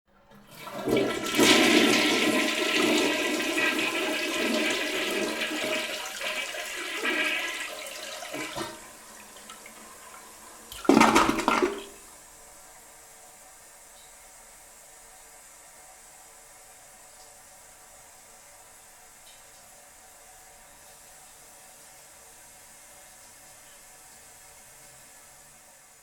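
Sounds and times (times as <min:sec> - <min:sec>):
toilet flushing: 0:00.2 - 0:26.0.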